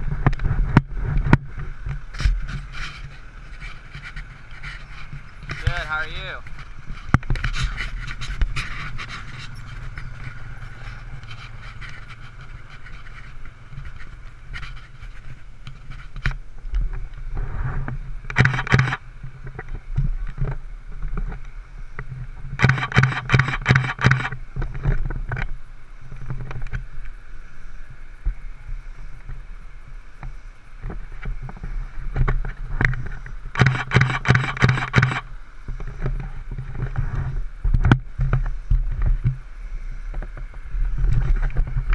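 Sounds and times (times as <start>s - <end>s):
microphone handling scraping: 0.0s - 21.4s, 22.0s - 25.5s, 30.2s - 41.9s.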